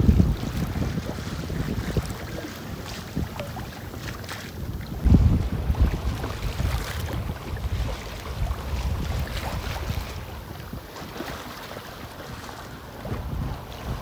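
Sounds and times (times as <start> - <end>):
water splashing along hull: 0.0 - 14.0
wind buffeting microphone: 0.0 - 14.0.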